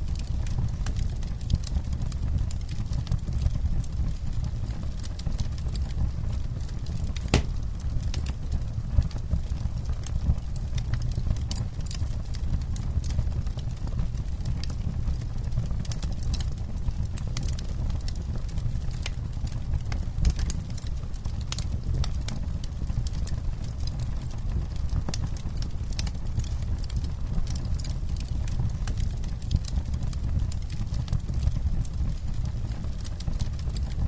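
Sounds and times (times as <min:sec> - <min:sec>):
campfire crackling and popping: 0:00.1 - 0:34.0.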